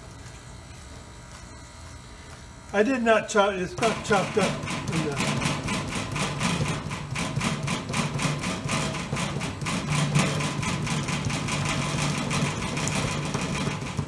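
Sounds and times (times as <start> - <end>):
compressor hum: 0.0 - 14.0.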